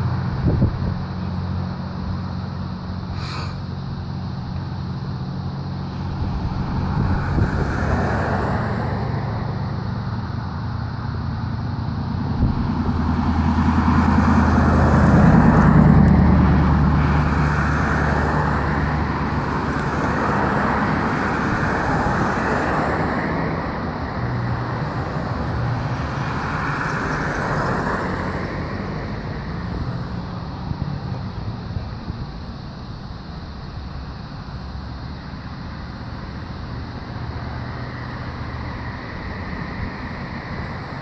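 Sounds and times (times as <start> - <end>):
car passing: 0.0 - 41.0
steady traffic noise: 0.0 - 41.0.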